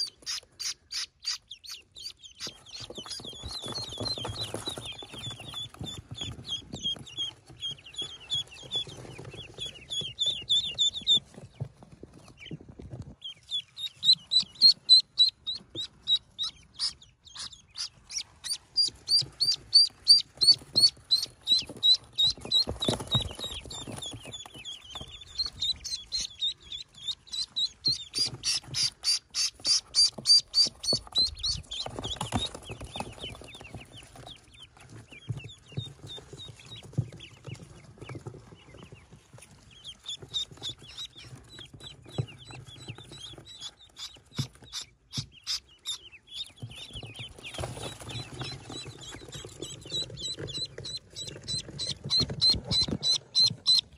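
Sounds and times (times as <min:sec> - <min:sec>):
duckling peeping: 0:00.0 - 0:53.9.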